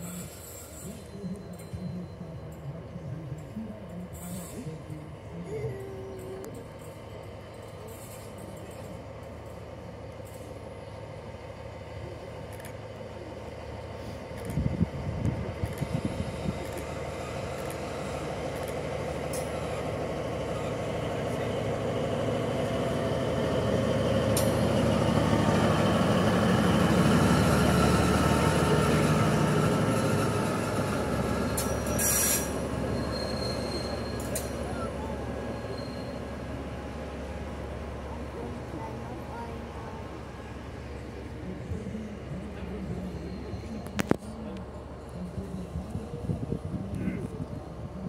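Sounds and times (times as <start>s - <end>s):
diesel locomotive engine rumble: 0.0s - 48.0s.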